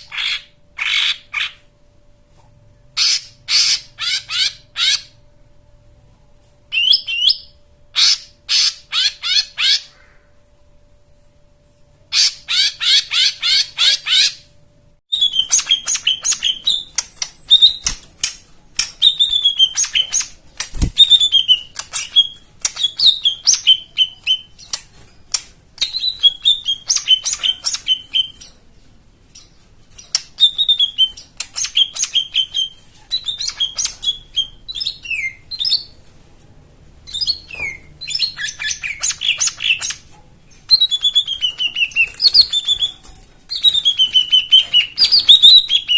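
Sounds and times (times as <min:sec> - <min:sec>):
bird singing: 0:02.8 - 0:05.3, 0:06.7 - 0:10.4, 0:11.1 - 0:20.4, 0:21.0 - 0:36.0, 0:37.0 - 0:45.9.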